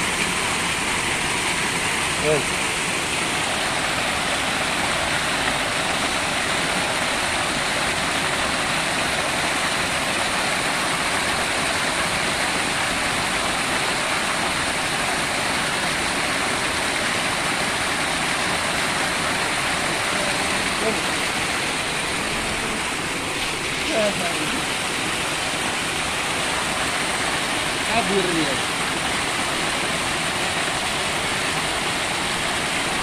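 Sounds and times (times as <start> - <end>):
water rushing over waterfall: 0.0 - 33.0.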